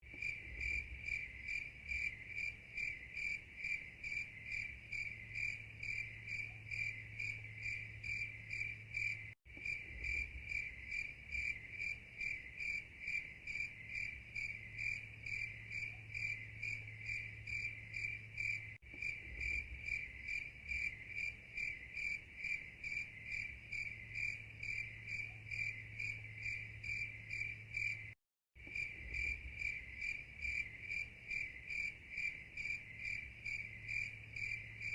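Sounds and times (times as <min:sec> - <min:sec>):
cricket chirping: 0:00.1 - 0:34.9.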